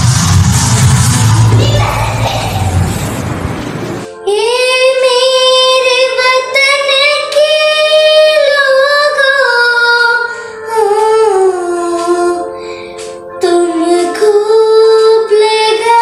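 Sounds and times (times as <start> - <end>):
girl singing: 1.5 - 2.9, 4.1 - 16.0.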